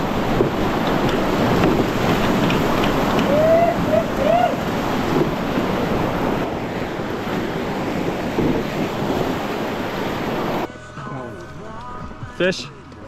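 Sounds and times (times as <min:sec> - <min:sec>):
whitewater rushing: 0:00.0 - 0:10.7
wind rumbling on microphone: 0:00.0 - 0:10.7.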